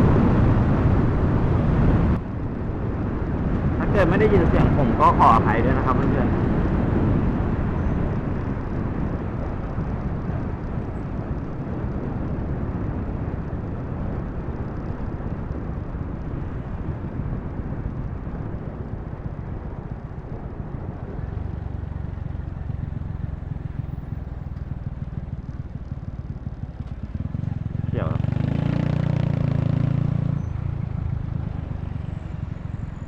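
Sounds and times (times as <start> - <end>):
motorcycle running: 0.0 - 33.0
road noise: 0.0 - 33.0
wind rush on microphone: 0.0 - 33.0.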